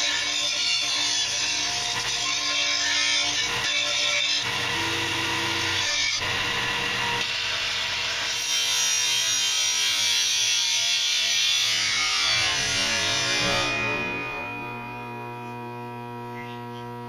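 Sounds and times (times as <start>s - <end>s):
sander grinding steel: 0.0s - 17.0s.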